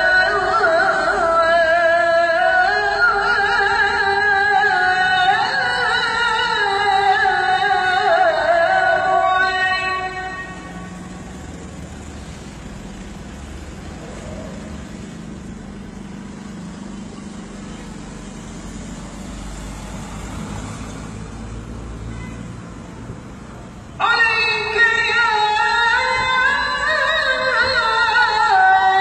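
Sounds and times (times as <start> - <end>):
street ambience: 0.0 - 29.0
traffic: 0.0 - 29.0.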